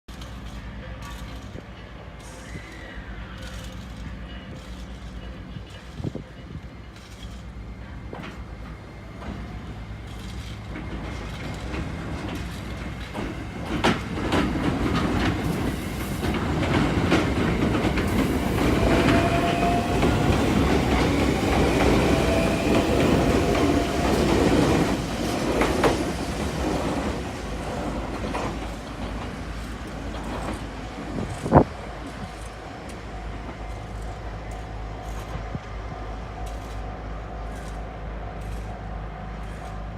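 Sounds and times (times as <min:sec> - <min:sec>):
clickety-clack over rail joints: 0:00.1 - 0:39.9
train running noise: 0:00.1 - 0:39.9.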